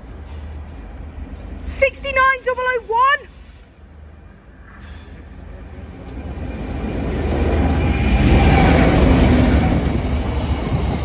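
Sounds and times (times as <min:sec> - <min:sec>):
diesel locomotive passing: 0:00.0 - 0:11.0.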